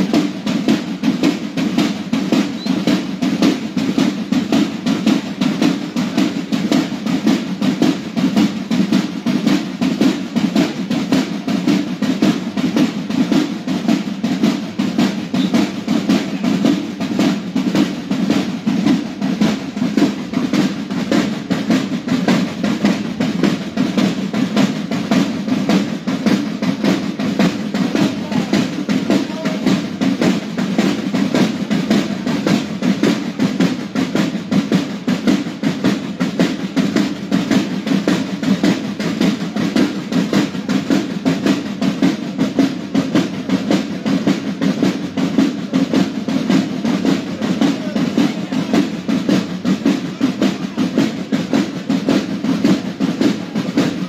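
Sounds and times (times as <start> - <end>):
marching drums: 0.0 - 54.0.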